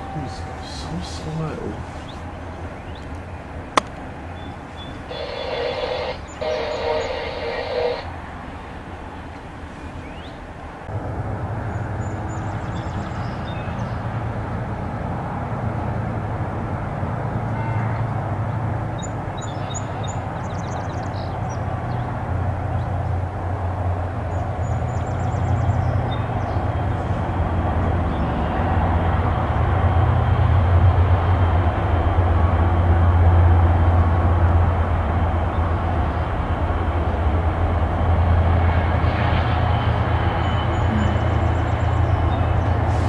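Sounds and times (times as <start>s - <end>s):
diesel locomotive rumbling: 0.0s - 43.0s.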